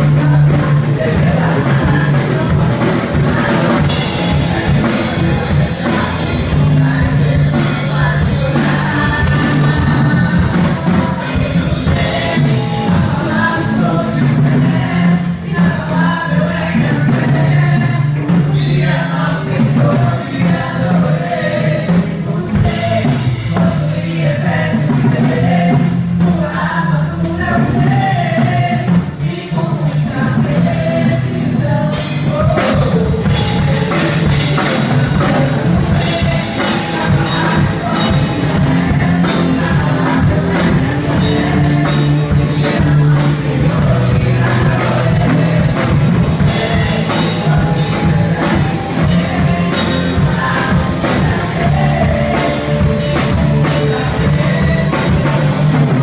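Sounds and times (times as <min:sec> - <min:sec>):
drum kit beat: 0:00.0 - 0:56.0
person singing: 0:00.0 - 0:56.0
worship band playing: 0:00.0 - 0:56.0.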